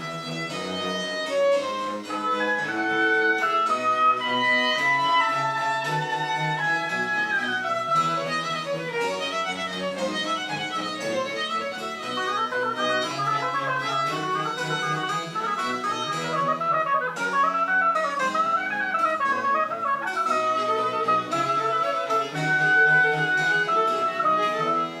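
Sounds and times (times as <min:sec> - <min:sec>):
baroque wind and string ensemble: 0:00.0 - 0:25.0.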